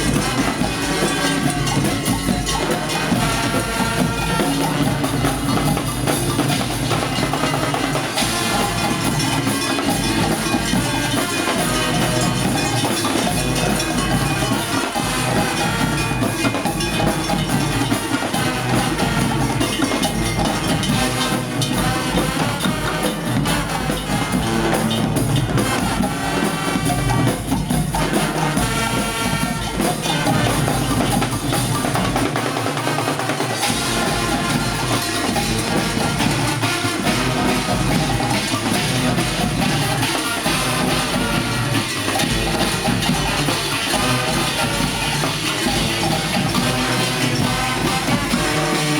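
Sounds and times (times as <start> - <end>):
marching band playing: 0.0 - 48.9
steady drum beats: 0.0 - 48.9.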